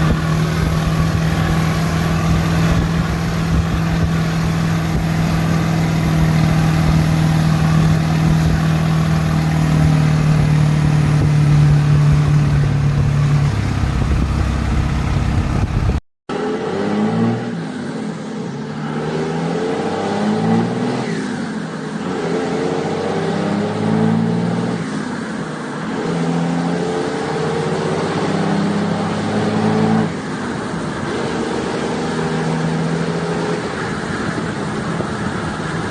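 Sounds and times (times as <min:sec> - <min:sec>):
diesel truck engine revving: 0:00.0 - 0:18.0, 0:18.7 - 0:35.9.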